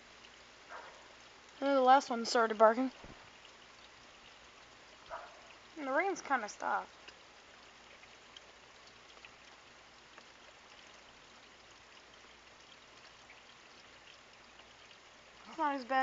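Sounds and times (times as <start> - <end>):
light rain hiss: 0.0 - 16.0
water dripping: 0.0 - 16.0.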